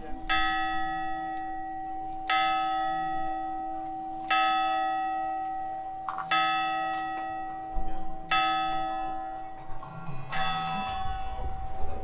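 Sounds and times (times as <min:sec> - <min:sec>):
church bell tolling: 0:00.0 - 0:12.0.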